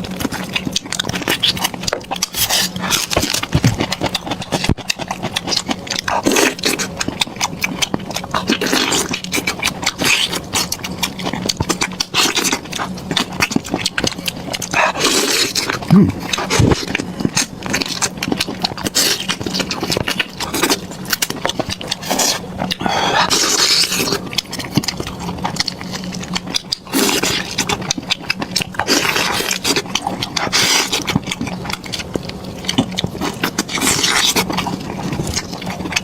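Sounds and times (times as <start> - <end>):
person chewing wet food: 0.0 - 36.0
steady low hum: 0.0 - 36.0.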